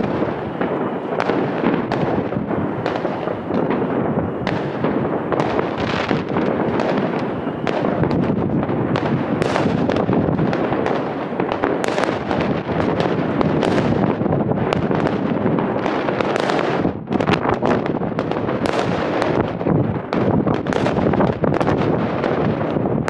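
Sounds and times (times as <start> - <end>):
fireworks bangs and crackling: 0.0 - 23.0
sharp firework reports: 0.0 - 23.0.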